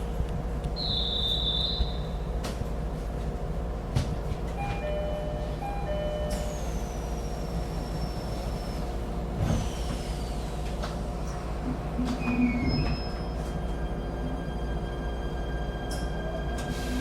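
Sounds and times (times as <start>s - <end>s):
train rumble with motor hum: 0.0s - 17.0s.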